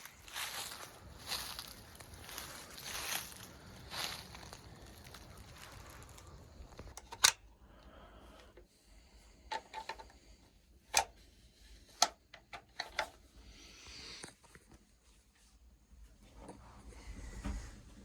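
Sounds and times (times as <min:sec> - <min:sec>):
faint background noise: 0:00.0 - 0:18.0.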